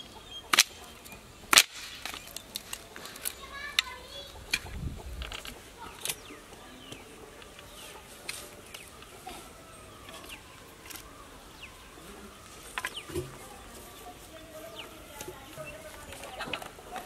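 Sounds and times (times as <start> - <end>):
digging earth and stones: 0.0 - 17.0.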